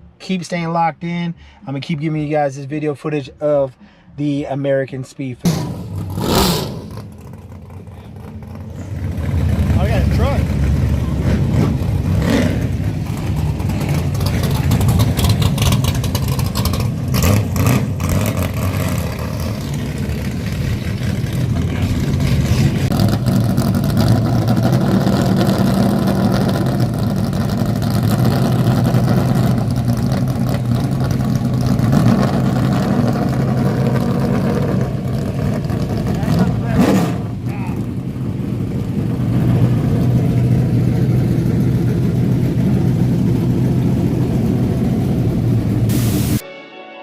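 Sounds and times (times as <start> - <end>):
truck engine rumbling: 0.0 - 46.4.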